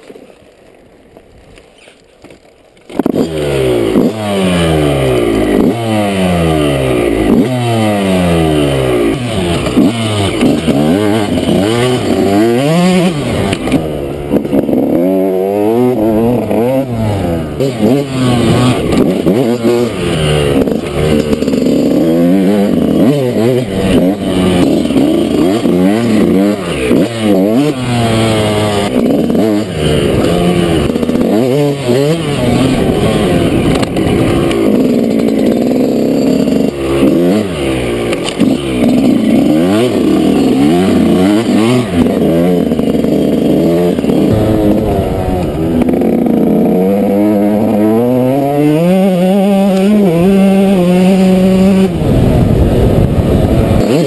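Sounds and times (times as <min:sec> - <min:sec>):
two-stroke motorcycle engine revving: 0:02.8 - 0:54.0.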